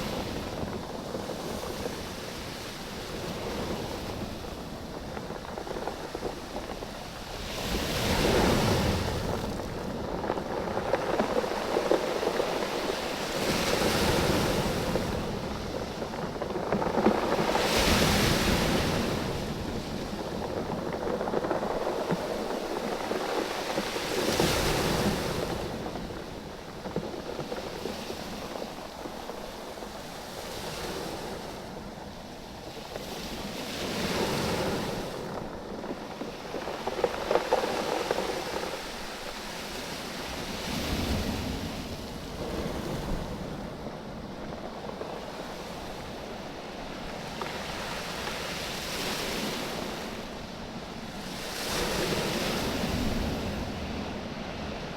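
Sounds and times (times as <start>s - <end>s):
waves surging on beach: 0.0s - 54.9s.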